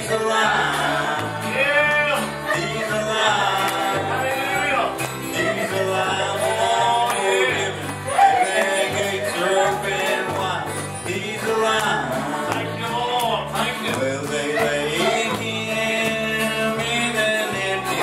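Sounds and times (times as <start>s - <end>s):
man singing: 0.0s - 18.0s
strummed acoustic guitar: 0.0s - 18.0s.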